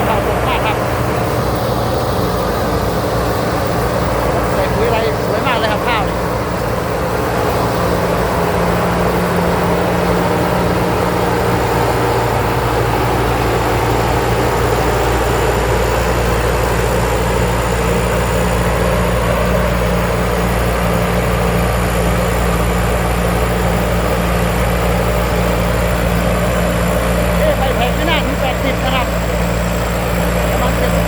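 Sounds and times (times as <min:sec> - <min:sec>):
harvester engine humming: 0:00.0 - 0:31.0
whirring cutting and threshing gear: 0:00.0 - 0:31.0.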